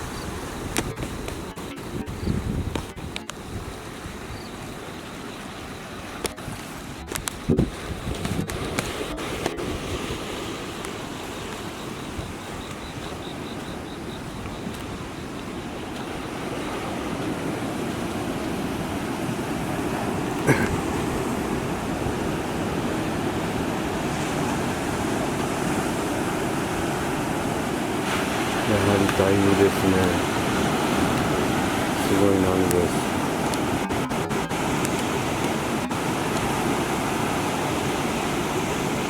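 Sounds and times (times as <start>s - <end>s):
surf crashing on shore: 0.0s - 39.0s
wind buffeting microphone: 0.0s - 39.0s.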